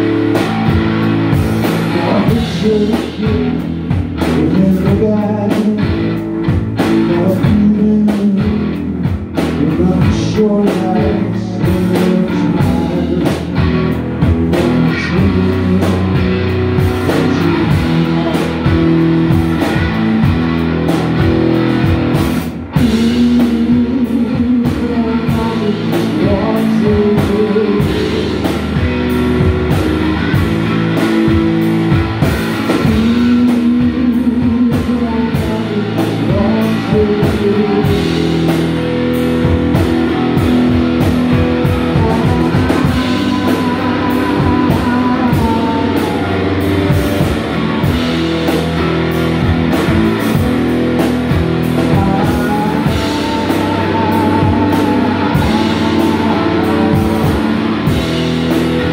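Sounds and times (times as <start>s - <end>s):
drum kit: 0.0s - 58.9s
electric guitar: 0.0s - 58.9s
man singing: 1.6s - 21.8s, 22.4s - 29.5s, 30.3s - 58.9s.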